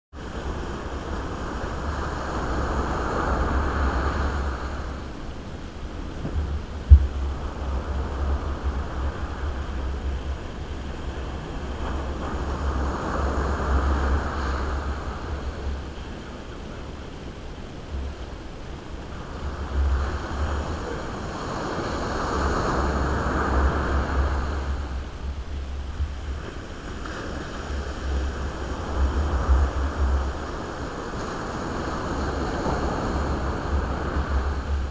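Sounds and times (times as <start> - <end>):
wind rumbling on microphone: 0.1 - 34.9
surf washing onto beach: 0.2 - 34.9.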